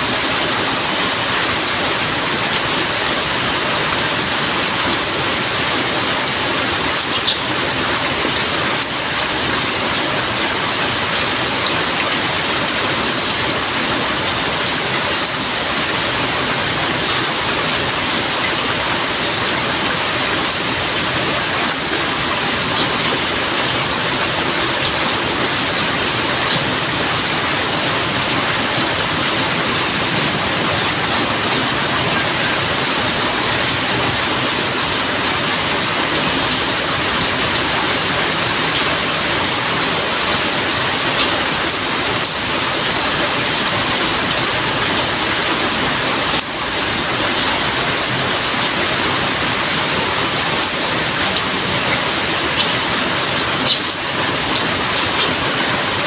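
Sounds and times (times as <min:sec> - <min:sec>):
heavy rain falling: 0:00.0 - 0:56.0
raindrop clicks: 0:02.2 - 0:12.2, 0:17.0 - 0:56.0.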